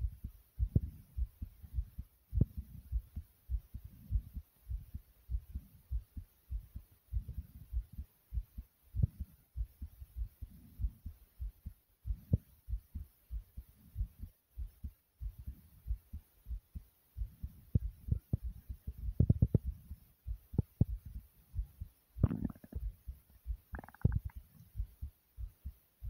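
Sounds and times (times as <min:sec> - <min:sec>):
fast heartbeat thumps: 0:00.0 - 0:25.8.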